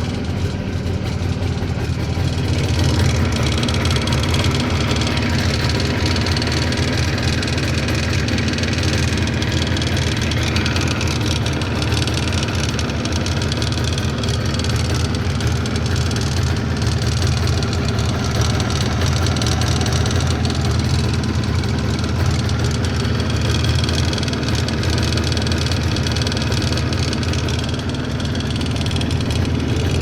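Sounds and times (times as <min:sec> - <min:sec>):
motorcycle engine idling with knock: 0:00.0 - 0:30.0.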